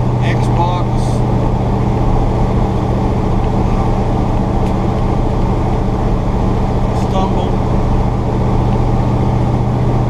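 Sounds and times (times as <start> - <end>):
pickup truck engine running: 0.0 - 10.0
road noise: 0.0 - 10.0.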